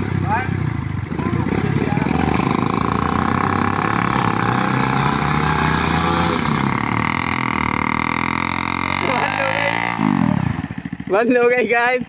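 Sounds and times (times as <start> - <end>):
engine whine: 0.0 - 11.2
small engine idling: 0.0 - 12.0.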